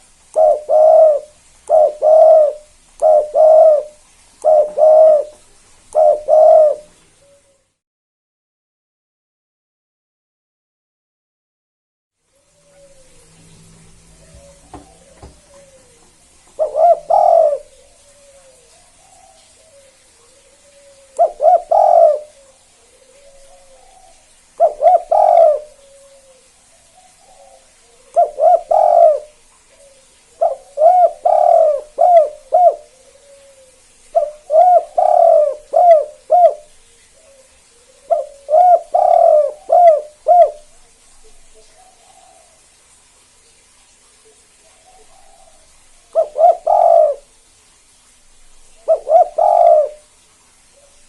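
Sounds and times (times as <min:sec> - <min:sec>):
dove cooing: 0:00.0 - 0:07.7, 0:12.4 - 0:42.6, 0:44.6 - 0:47.4, 0:48.8 - 0:50.1.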